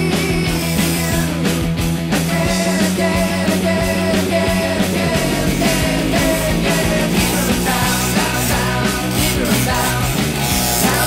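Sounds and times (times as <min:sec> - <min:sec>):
rock music: 0:00.0 - 0:11.0
steady drum beat: 0:00.0 - 0:11.0.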